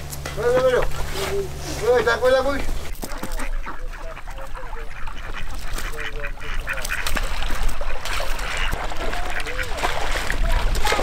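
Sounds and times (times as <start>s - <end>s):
ducks quacking: 0.4s - 11.0s.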